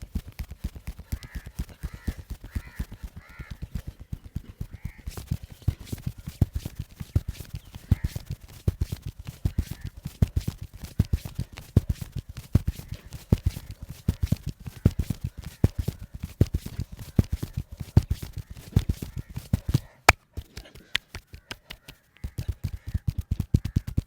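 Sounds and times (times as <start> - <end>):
hands thumping body in massage: 0.0 - 20.6.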